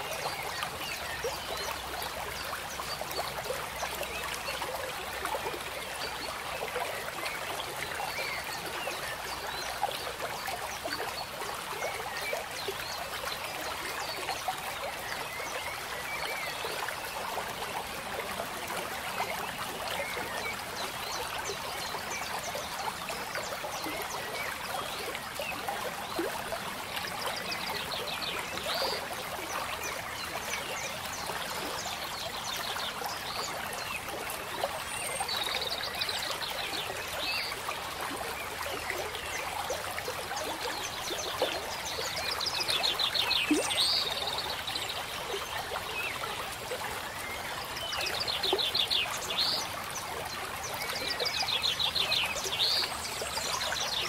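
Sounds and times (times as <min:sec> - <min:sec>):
trickle of running water: 0:00.0 - 0:54.0.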